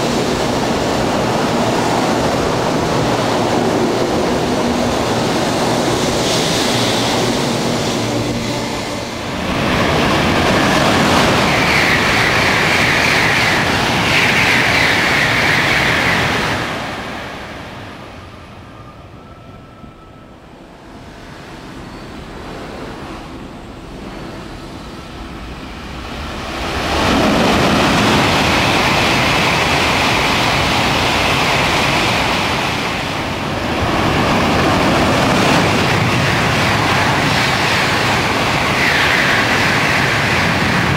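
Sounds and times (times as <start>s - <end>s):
high-speed train rushing past: 0.0s - 40.9s.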